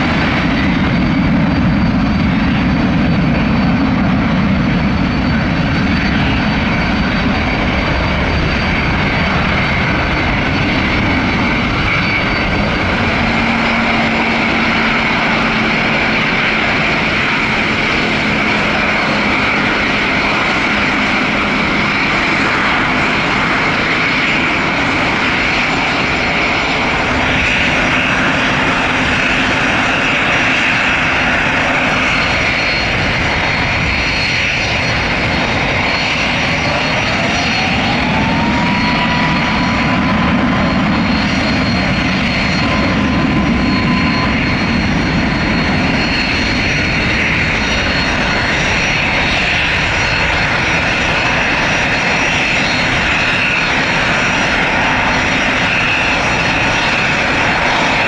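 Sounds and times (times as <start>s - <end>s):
engine whine rising in pitch: 0.0s - 58.0s
jet engines running: 0.0s - 58.0s.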